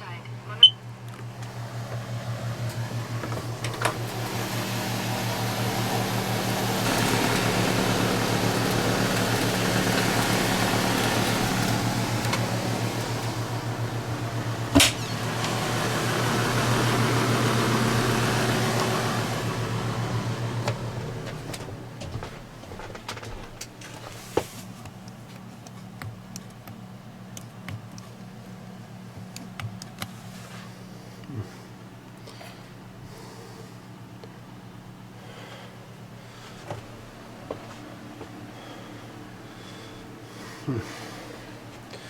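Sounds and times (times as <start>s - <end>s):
fan motor humming: 0.0s - 42.0s.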